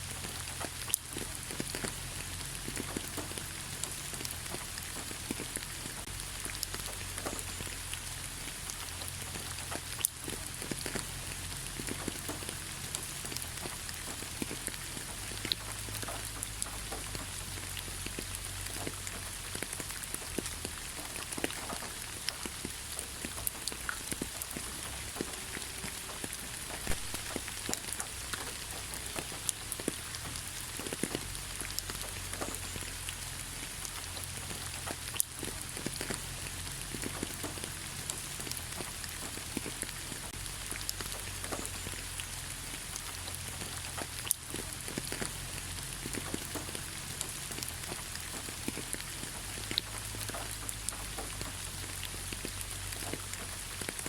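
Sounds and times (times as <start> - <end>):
rain hissing on leaves: 0.0 - 54.0
raindrop ticks: 0.0 - 54.0.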